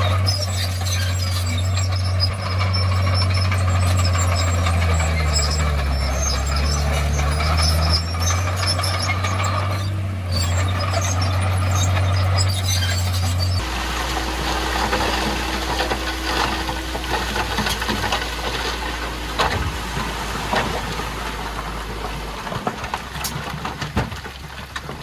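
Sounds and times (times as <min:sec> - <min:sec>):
bulldozer diesel engine running: 0:00.0 - 0:25.0
rattling and clanking: 0:00.0 - 0:25.0.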